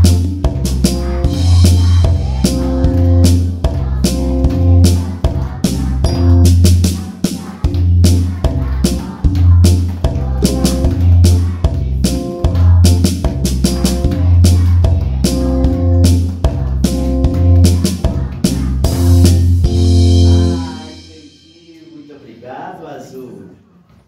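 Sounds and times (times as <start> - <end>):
bass line: 0.0 - 7.0, 7.7 - 21.4
drum kit: 0.0 - 22.8.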